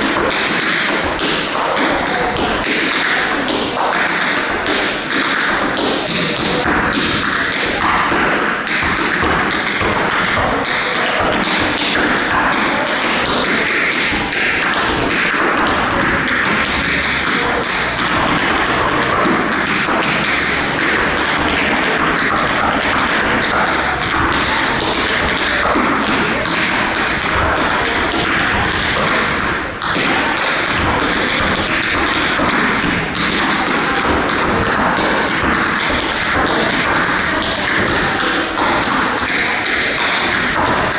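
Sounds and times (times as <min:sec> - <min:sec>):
tap shoes on wooden floor: 0:00.0 - 0:40.9.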